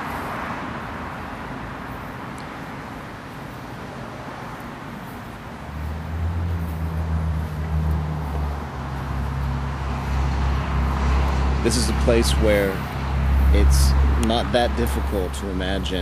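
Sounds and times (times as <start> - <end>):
road traffic noise: 0.0 - 16.0
vehicle engine humming: 0.0 - 16.0.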